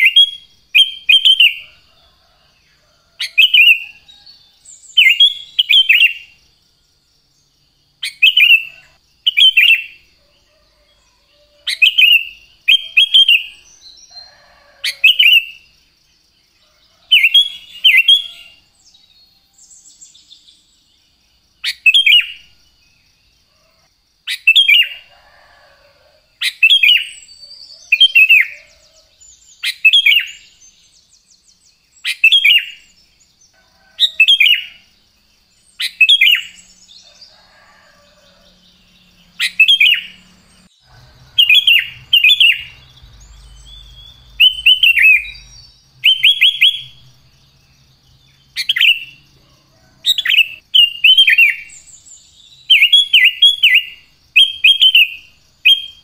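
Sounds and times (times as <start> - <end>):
bird singing falling phrases: 0.0 - 56.0.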